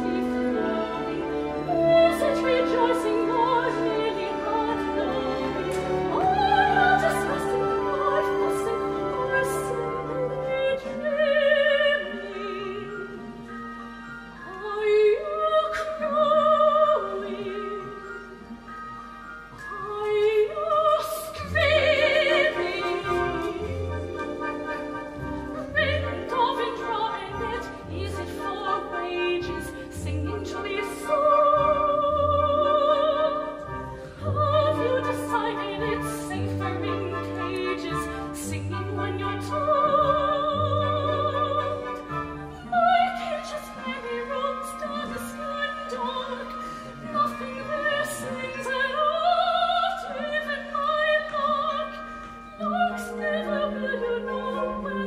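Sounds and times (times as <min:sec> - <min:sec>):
orchestra: 0:00.0 - 0:55.0.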